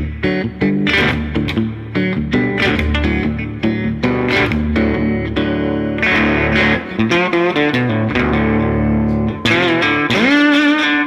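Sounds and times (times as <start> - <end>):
slide guitar playing: 0.0 - 11.0.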